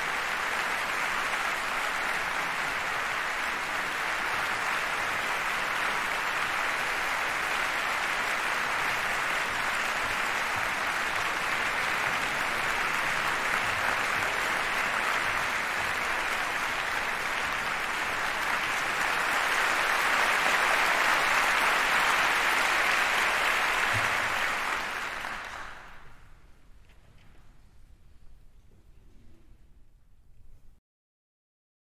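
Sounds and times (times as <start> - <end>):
audience applauding: 0.0 - 26.3.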